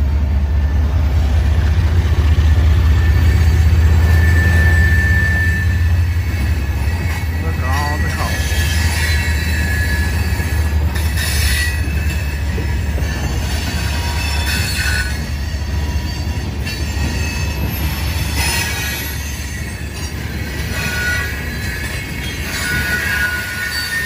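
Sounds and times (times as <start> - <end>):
freight cars rumbling on rails: 0.0 - 24.0
wheel squeal: 2.8 - 24.0.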